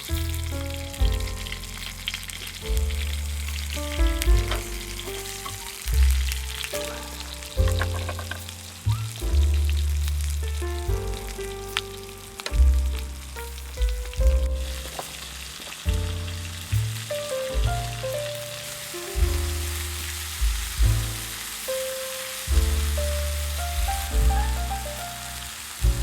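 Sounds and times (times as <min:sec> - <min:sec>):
background music with bass line: 0:00.0 - 0:26.0
sizzling hiss: 0:00.0 - 0:26.0.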